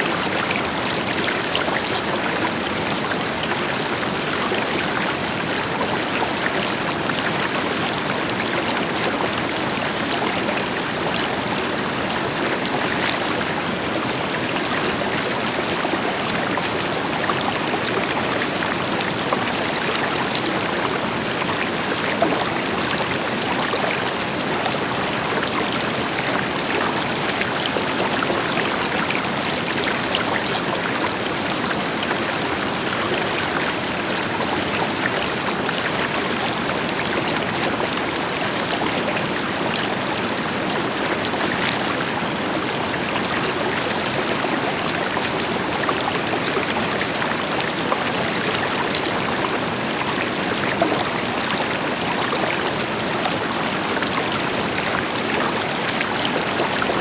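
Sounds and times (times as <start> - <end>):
river water splashing over rocks: 0.1 - 57.0.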